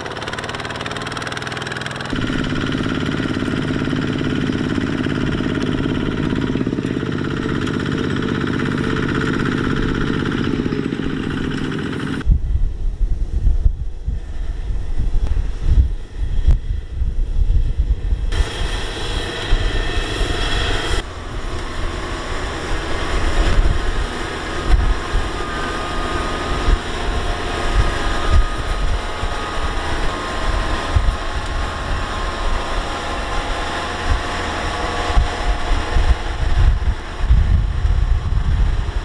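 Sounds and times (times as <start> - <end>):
combine harvester droning: 0.0 - 12.9, 13.9 - 39.0.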